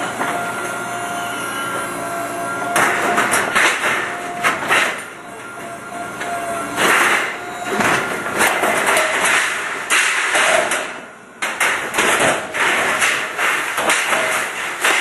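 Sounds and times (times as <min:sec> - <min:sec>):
hydraulic breaker hammering: 0:01.7 - 0:15.0.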